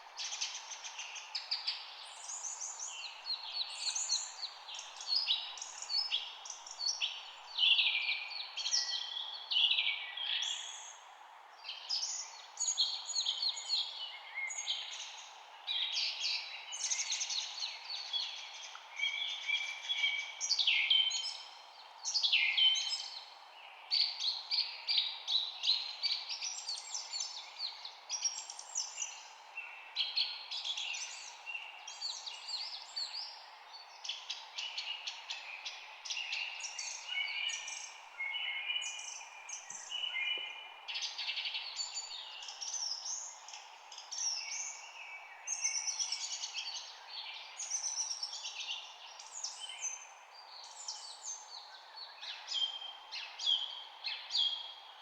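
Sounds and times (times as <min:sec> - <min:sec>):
small birds chirping and singing: 0:00.2 - 0:55.0.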